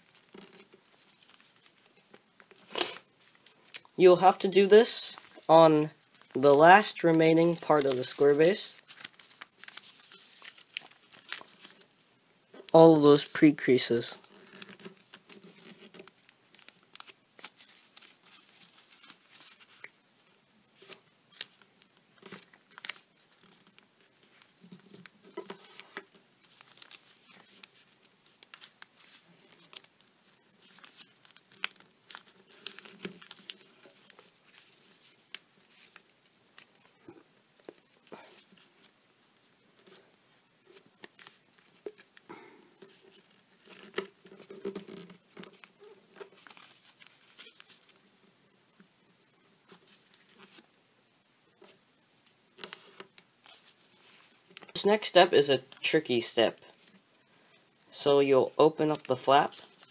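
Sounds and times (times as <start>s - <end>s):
paper rustling and crackling: 0.0s - 11.9s, 12.9s - 20.0s, 20.8s - 48.2s, 49.6s - 50.7s, 51.6s - 54.9s, 58.6s - 59.9s.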